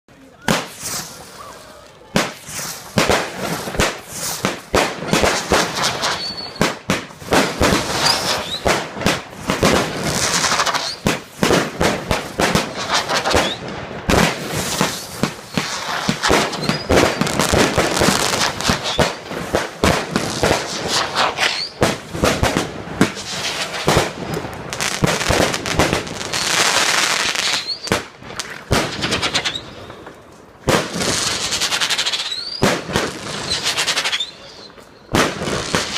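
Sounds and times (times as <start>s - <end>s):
fireworks bangs and crackling: 0.1s - 35.9s
rising firework whistles: 0.4s - 28.1s, 28.8s - 30.1s, 31.0s - 35.9s.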